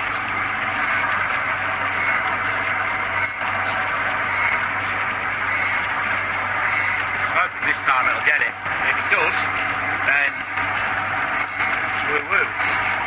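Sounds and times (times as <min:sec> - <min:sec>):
grinding wheel hissing on metal: 0:00.0 - 0:13.0
motor humming: 0:00.0 - 0:13.0.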